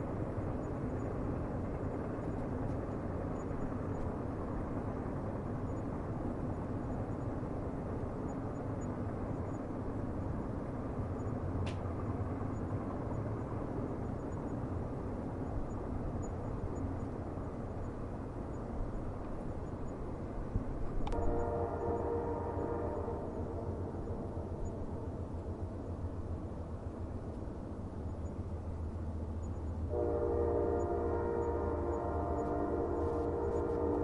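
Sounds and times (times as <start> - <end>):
distant train rumbling: 0.0 - 34.0.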